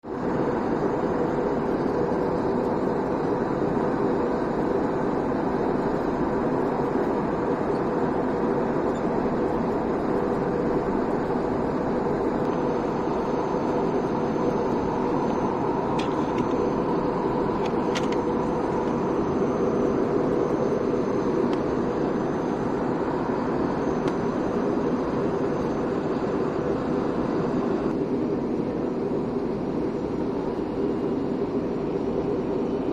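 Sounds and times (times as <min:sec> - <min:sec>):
faint high whine: 0:00.0 - 0:32.9
airliner cabin noise: 0:00.1 - 0:32.9.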